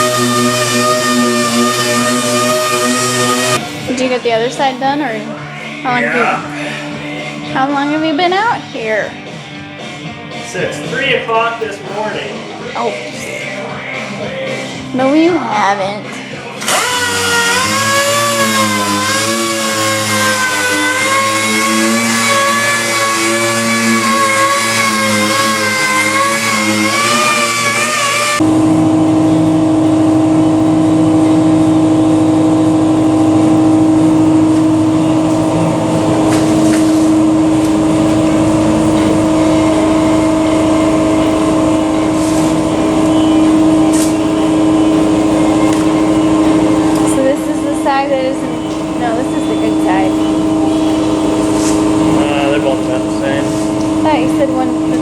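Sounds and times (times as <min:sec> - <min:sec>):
machinery running: 0:00.0 - 0:09.1, 0:16.4 - 0:55.0
steady machine hum: 0:00.0 - 0:55.0.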